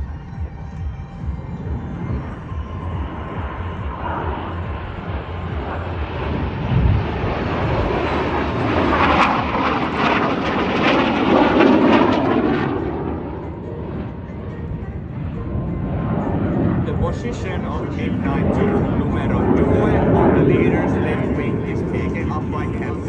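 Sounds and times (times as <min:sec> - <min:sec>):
jet aircraft roaring past: 0:00.0 - 0:23.0.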